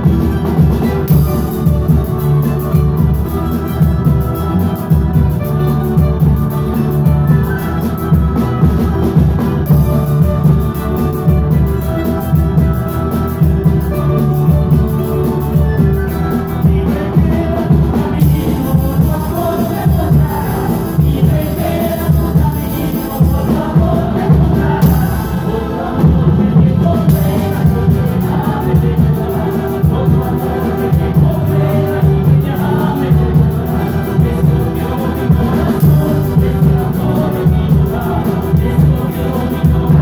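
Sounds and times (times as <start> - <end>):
bass and percussion beat: 0.0 - 40.0
group of voices singing: 0.0 - 40.0
strummed guitars: 0.0 - 40.0.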